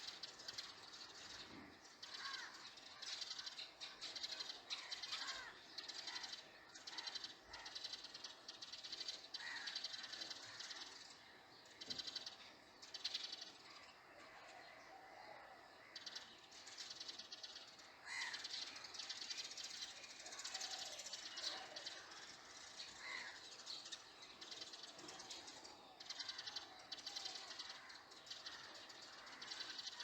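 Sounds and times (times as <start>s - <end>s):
birds rattling trills: 0.0s - 14.6s, 15.8s - 30.0s.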